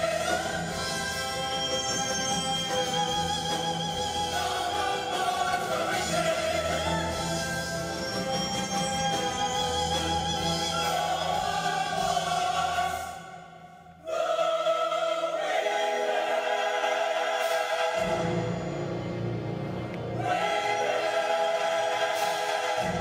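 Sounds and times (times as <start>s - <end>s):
orchestra and choir holding chords: 0.0s - 23.0s.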